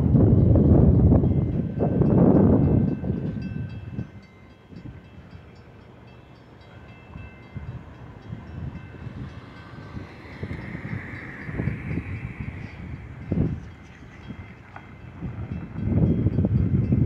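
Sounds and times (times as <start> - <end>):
train rumbling: 0.0 - 17.0
wind buffeting microphone: 0.0 - 17.0
railroad crossing bell ringing: 0.3 - 17.0.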